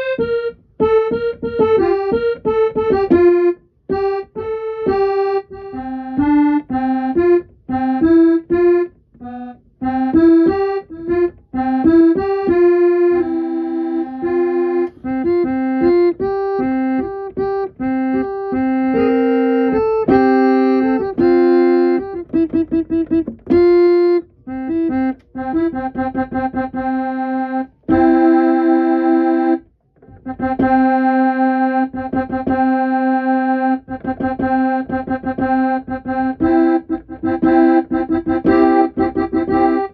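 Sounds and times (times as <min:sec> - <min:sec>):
electronic keyboard melody: 0:00.0 - 0:39.9.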